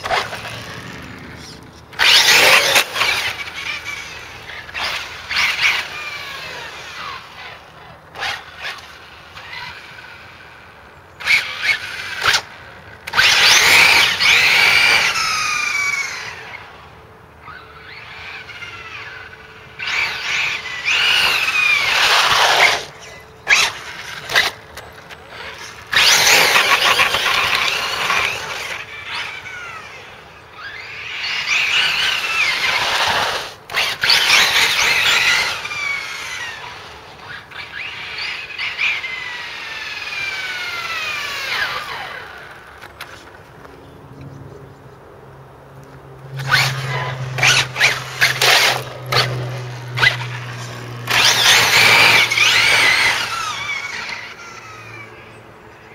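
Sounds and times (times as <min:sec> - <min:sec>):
electric motor whining: 0:00.0 - 0:43.4, 0:46.2 - 0:55.9.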